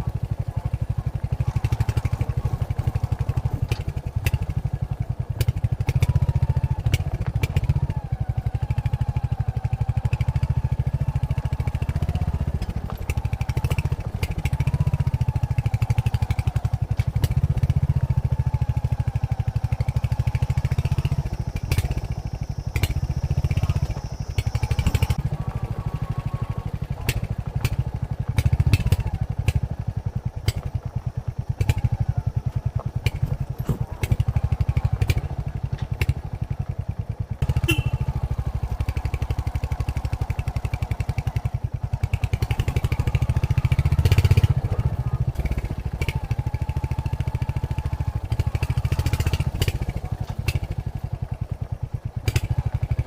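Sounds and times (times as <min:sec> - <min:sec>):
motorcycle engine thumping: 0:00.2 - 0:08.0, 0:10.1 - 0:53.0.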